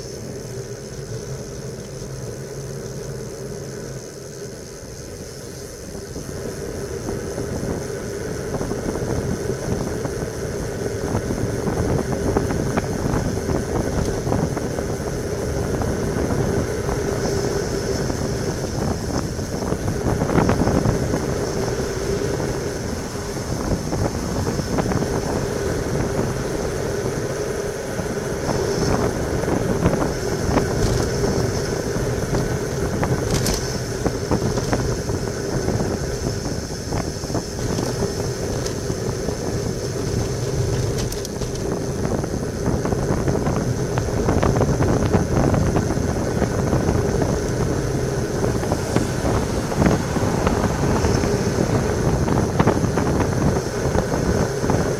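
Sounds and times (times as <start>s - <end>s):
bicycle tyres rumbling on asphalt: 0.0s - 54.9s
wind rush: 0.0s - 54.9s.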